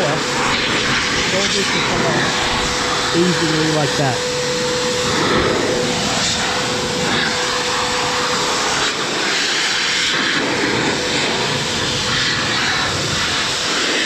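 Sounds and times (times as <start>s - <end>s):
car drying blower rushing air: 0.0s - 14.0s.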